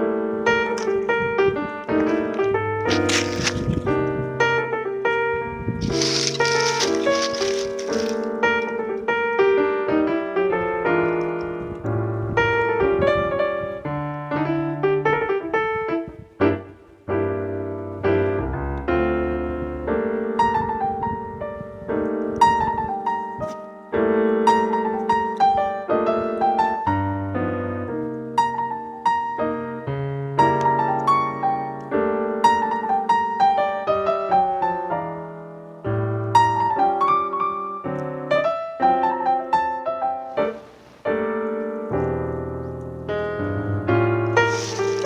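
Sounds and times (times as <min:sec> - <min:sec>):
slow piano music: 0:00.0 - 0:45.0.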